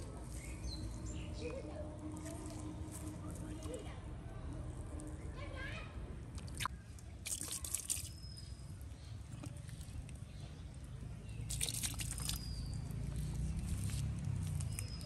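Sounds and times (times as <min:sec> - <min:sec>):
mud and water squelching: 0:00.0 - 0:05.3, 0:06.3 - 0:15.0.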